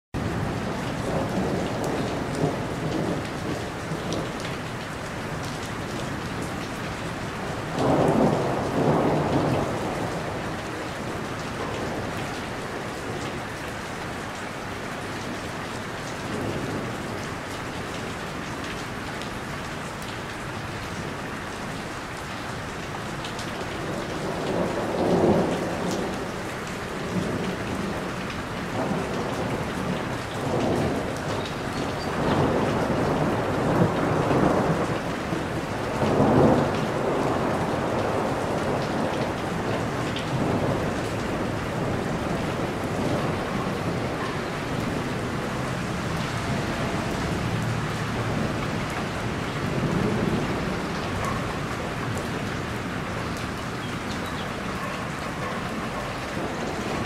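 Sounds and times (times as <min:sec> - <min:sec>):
heavy rain on a roof: 0:00.2 - 0:57.0.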